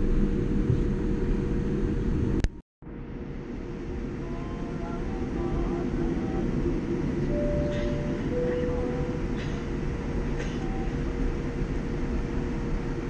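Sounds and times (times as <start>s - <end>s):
jet cabin rumble: 0.0s - 13.0s
plane taxiing hum: 0.0s - 13.0s.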